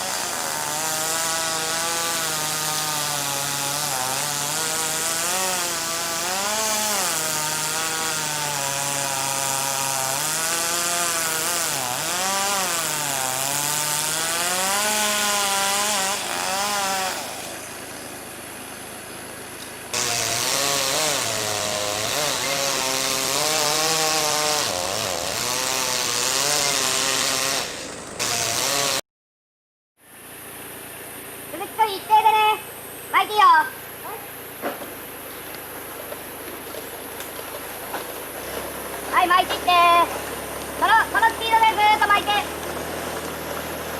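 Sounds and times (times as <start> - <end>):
chainsaw running and cutting: 0.0 - 29.0, 32.1 - 43.9.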